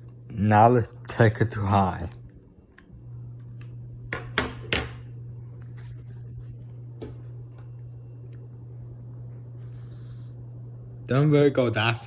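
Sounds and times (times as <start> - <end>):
ceiling fan motor humming: 0.0 - 12.0.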